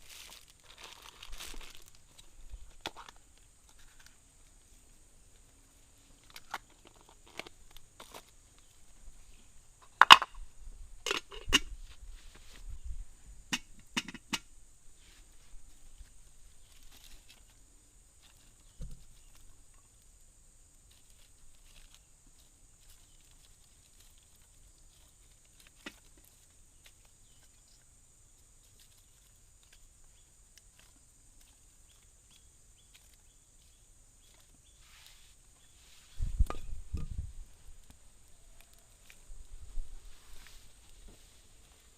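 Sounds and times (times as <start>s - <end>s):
faint high hiss: 0.0s - 41.9s.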